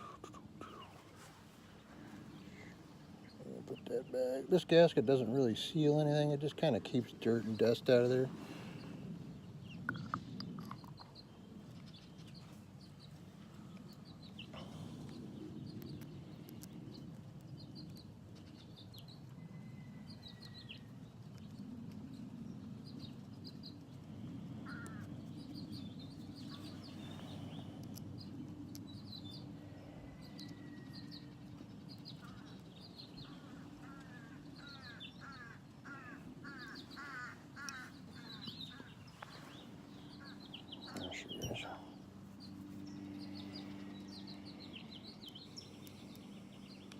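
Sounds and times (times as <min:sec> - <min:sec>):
birds chirping and calling: 0:00.0 - 0:46.9
steady low hum: 0:00.0 - 0:46.9.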